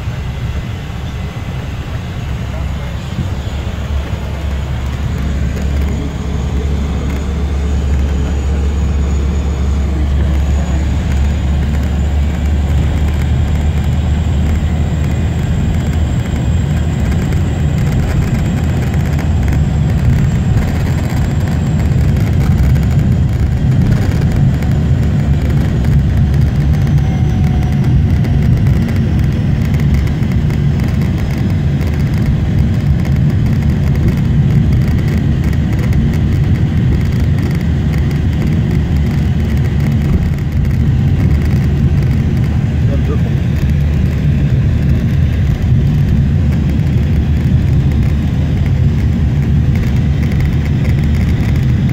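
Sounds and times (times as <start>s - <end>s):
turboprop engine cabin noise: 0.0s - 51.9s.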